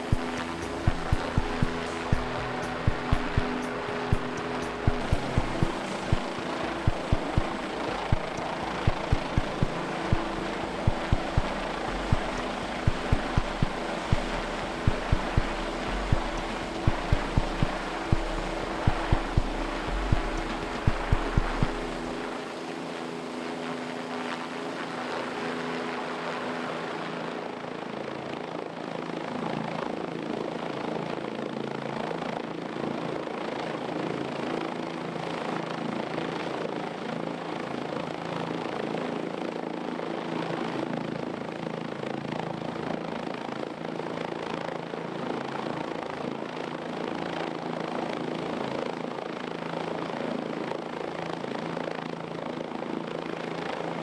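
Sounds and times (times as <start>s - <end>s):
helicopter rotor and engine hovering: 0.0s - 54.0s.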